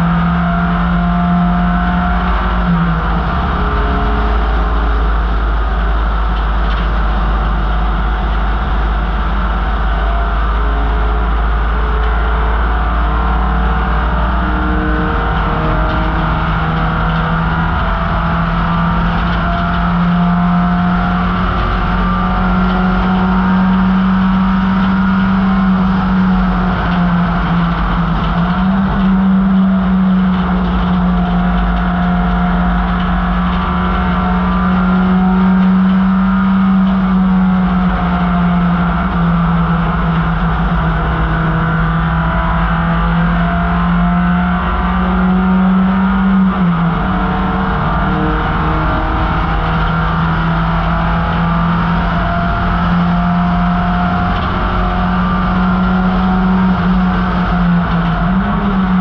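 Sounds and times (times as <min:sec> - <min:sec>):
race car engine at high revs: 0:00.0 - 0:59.0
road and wind rumble: 0:00.0 - 0:59.0.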